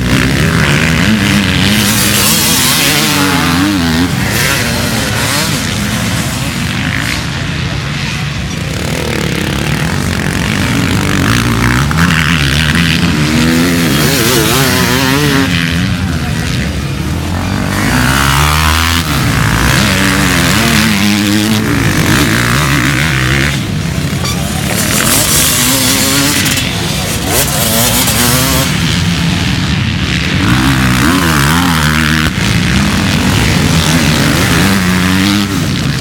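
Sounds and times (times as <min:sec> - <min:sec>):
motocross bikes revving: 0:00.0 - 0:36.0.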